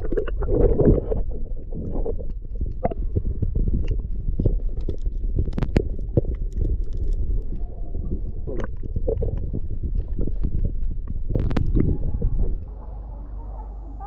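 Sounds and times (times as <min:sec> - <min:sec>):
muffled low rumble: 0:00.0 - 0:14.0.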